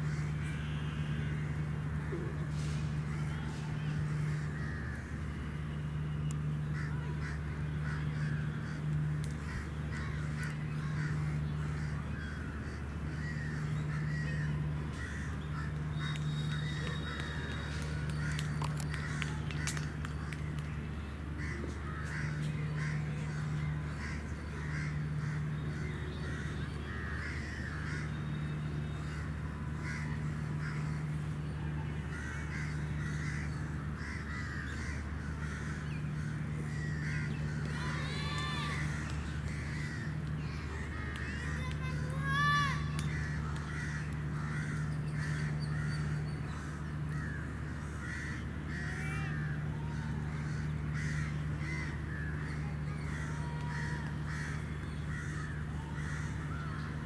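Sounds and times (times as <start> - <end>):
steady low hum: 0.0 - 57.0
crows cawing: 3.1 - 5.1, 6.8 - 20.4, 21.4 - 28.2, 28.9 - 31.2, 32.1 - 57.0.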